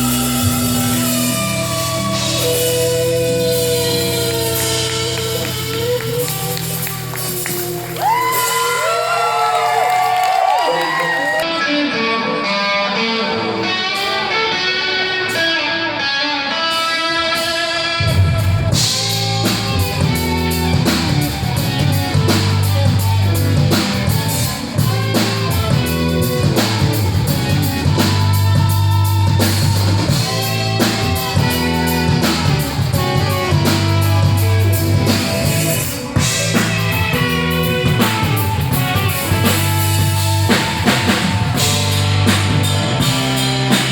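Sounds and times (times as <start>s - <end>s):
electric guitar riff: 0.0s - 9.3s, 11.4s - 43.9s
bass and drum kit: 0.0s - 11.4s, 16.7s - 43.9s.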